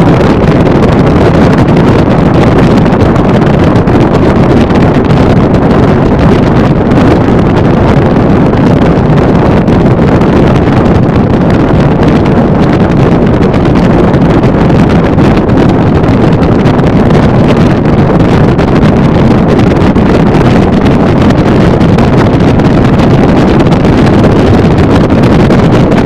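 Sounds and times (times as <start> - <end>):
boat rushing over water: 0.0 - 26.0
loud wind on microphone: 0.0 - 26.0.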